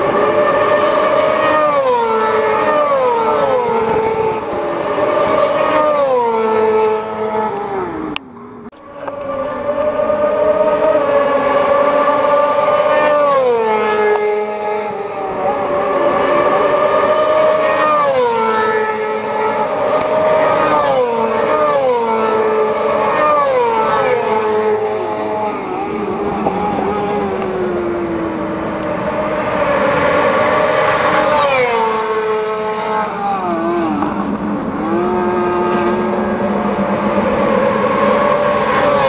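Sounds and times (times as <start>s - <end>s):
motorcycles racing past: 0.0s - 39.0s.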